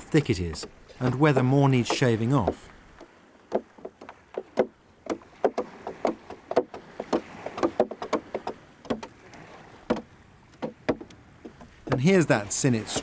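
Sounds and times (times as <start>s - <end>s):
tools knocking on wooden hull: 0.4s - 9.2s, 9.8s - 12.2s.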